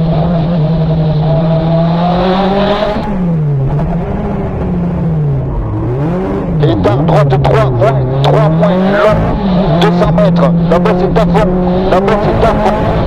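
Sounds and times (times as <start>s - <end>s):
rally car engine under load: 0.0s - 13.0s.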